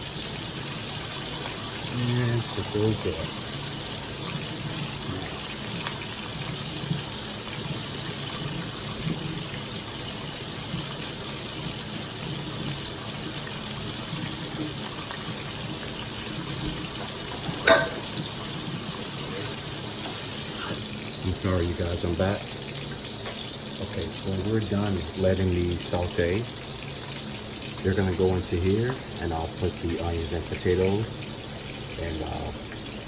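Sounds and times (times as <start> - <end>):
kitchen faucet running: 0.0 - 33.0.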